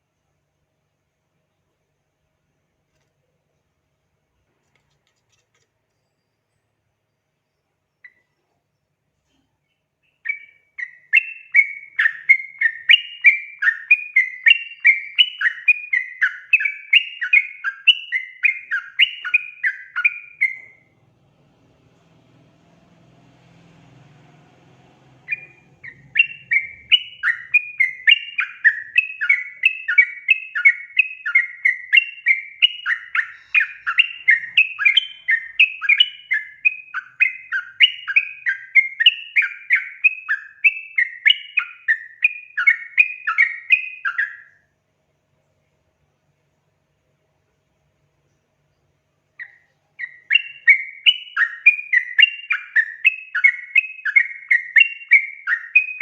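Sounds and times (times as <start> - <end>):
faint low hum: 0.0 - 56.0
bird song with chattering notes: 5.2 - 44.7, 47.8 - 56.0.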